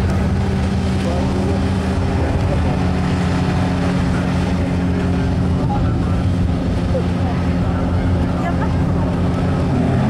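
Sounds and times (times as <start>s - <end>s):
car engines droning: 0.0s - 10.0s.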